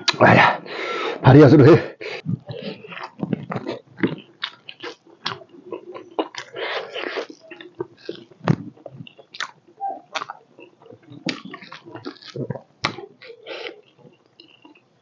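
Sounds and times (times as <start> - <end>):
person biting and chewing: 2.6 - 14.9.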